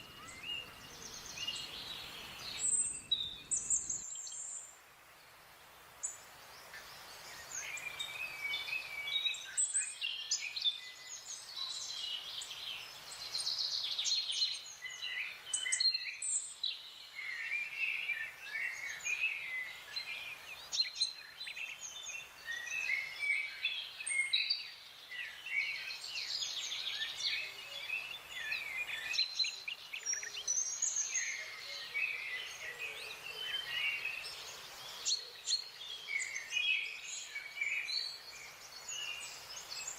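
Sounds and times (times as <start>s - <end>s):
songbirds chirping and singing: 0.0s - 5.2s, 6.0s - 39.9s
faint outdoor hiss: 0.0s - 39.9s.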